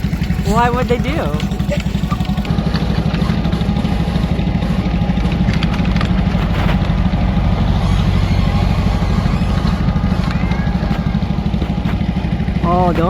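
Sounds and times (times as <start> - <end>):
rattles over bumpy ground: 0.0 - 13.0
vehicle engine running steadily: 0.0 - 13.0.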